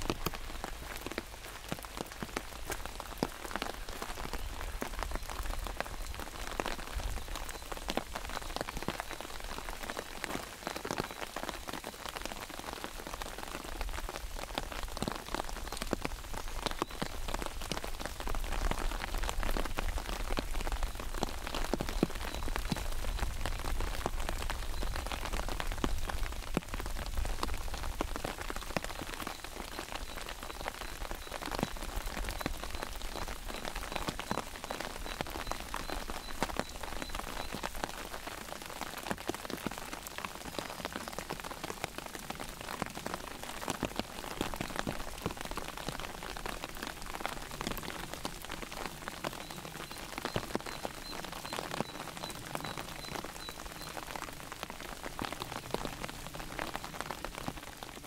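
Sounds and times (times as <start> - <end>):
rain pattering on umbrella: 0.0 - 58.0.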